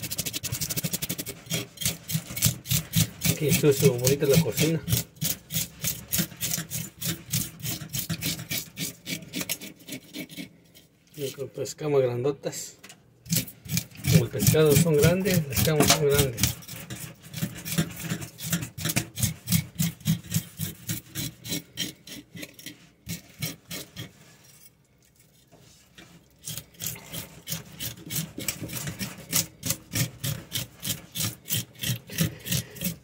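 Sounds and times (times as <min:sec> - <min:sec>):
blade scraping fish scales: 0:00.0 - 0:11.5, 0:13.3 - 0:33.0.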